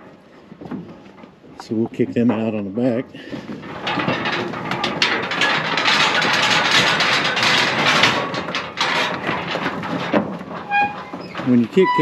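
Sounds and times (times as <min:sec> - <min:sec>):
hooves clattering on trailer floor: 0:00.0 - 0:12.0
metal trailer rattling and banging: 0:00.0 - 0:12.0
trailer gate clanking: 0:00.7 - 0:12.0.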